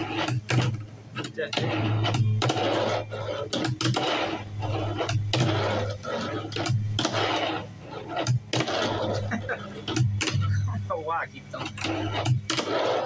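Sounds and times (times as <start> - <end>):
fingerboard rolling on plastic: 0.0 - 10.8, 11.5 - 13.0.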